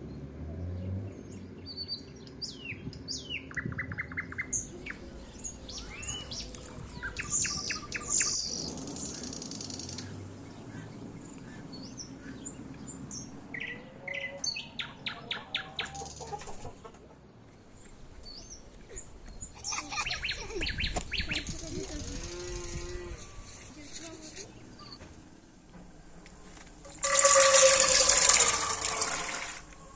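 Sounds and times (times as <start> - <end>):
songbirds chirping and trilling: 0.0 - 28.6.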